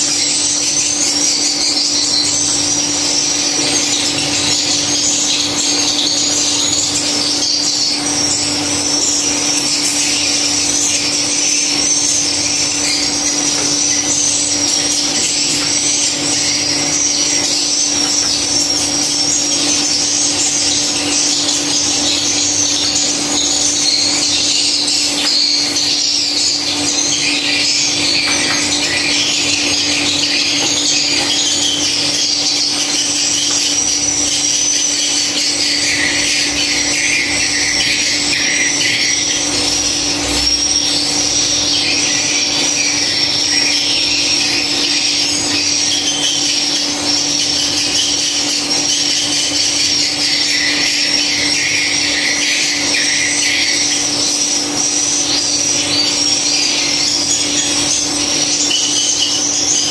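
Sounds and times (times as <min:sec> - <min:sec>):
swiftlets twittering: 0:00.0 - 0:59.9.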